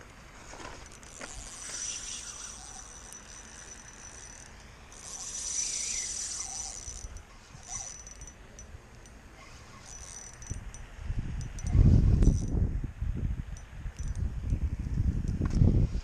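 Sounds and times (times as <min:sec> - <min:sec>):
fishing reel whirring: 0:00.5 - 0:12.7, 0:13.5 - 0:14.3.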